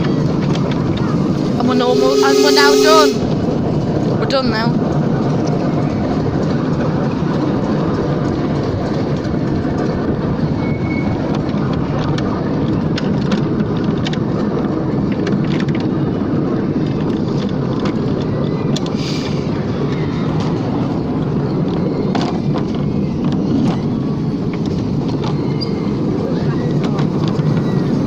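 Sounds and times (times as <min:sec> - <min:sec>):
miniature train rumbling: 0:00.0 - 0:28.0.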